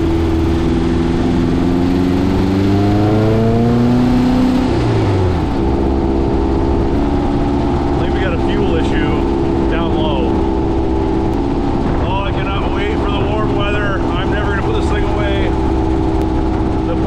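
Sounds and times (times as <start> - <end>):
air-cooled engine revving: 0.0 - 17.0.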